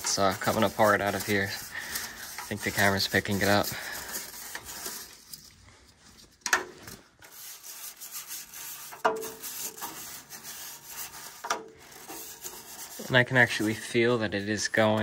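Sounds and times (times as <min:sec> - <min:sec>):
brush scrubbing metal tubes: 0:00.0 - 0:15.0.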